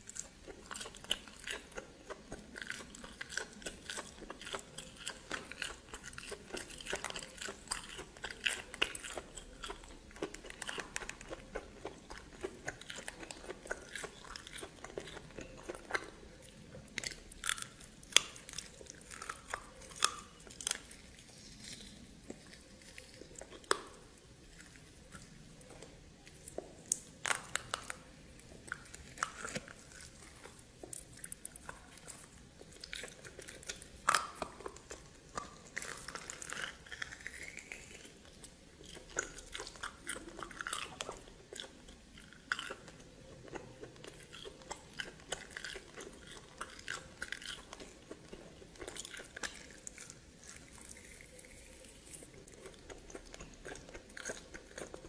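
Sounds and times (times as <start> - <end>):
person chewing with crunches: 0.0 - 55.0.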